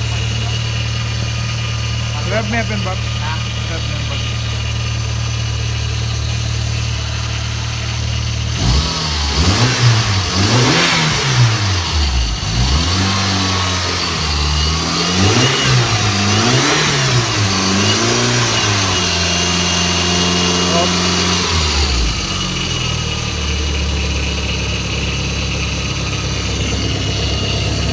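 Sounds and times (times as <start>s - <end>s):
car engine idling: 0.0s - 27.9s
engine revving in quick blips: 2.0s - 27.9s.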